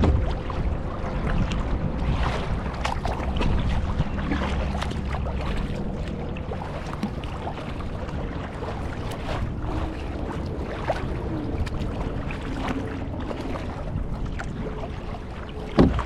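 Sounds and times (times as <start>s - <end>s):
water splashing around kayak paddle: 0.0s - 16.0s
wind rumble on microphone: 0.0s - 16.0s.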